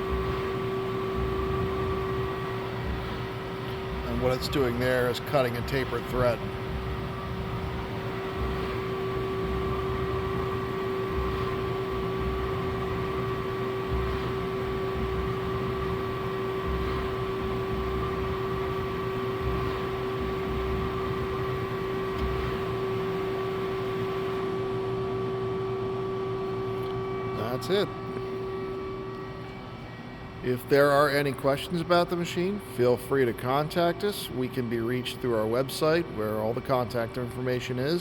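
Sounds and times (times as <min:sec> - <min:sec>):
lathe machine hum with whine: 0:00.0 - 0:38.0.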